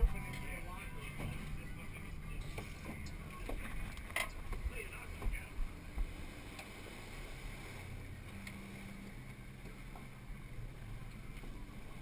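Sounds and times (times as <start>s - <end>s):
boat engine humming: 0.0s - 12.0s
water noise: 0.0s - 12.0s
wind: 0.0s - 12.0s.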